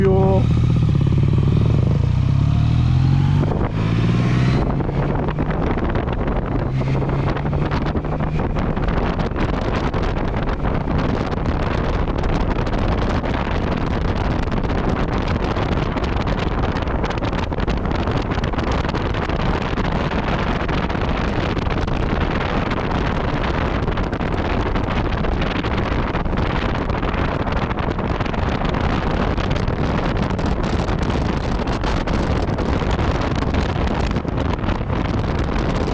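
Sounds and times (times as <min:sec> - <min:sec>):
motorcycle engine at speed: 0:00.0 - 0:35.9
wind rushing over microphone: 0:00.0 - 0:35.9.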